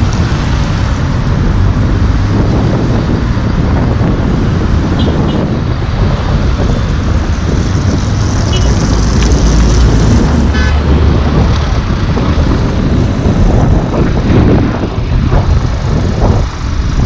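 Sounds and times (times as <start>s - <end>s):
car engines in slow traffic: 0.0s - 17.0s.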